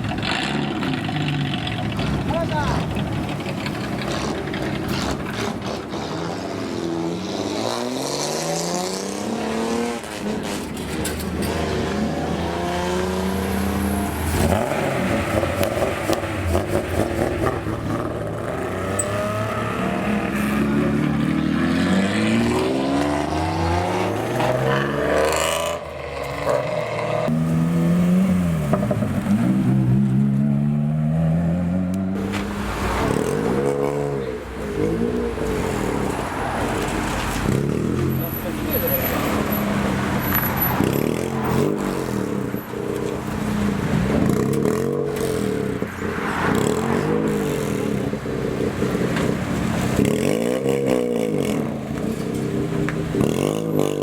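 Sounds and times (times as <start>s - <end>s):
cars revving loudly: 0.0s - 54.0s.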